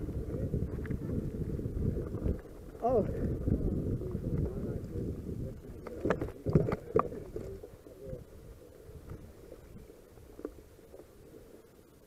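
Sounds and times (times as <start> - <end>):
bike tyres rumbling on grass: 0.0 - 11.3.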